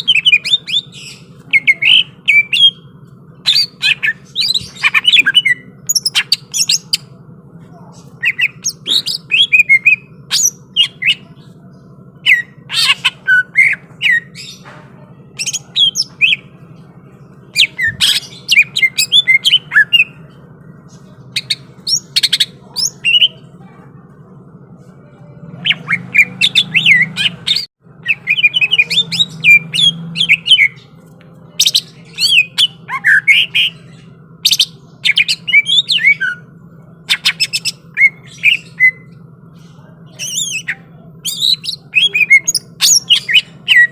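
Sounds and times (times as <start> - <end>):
bird chattering song: 0.0 - 23.8, 25.0 - 43.9
steady low hum: 0.0 - 43.9.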